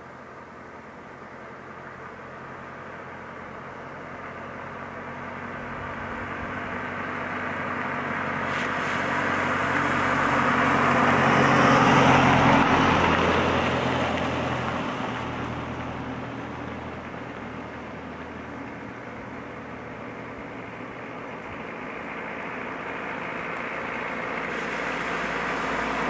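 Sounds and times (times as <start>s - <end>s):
car driving past: 4.2s - 26.0s.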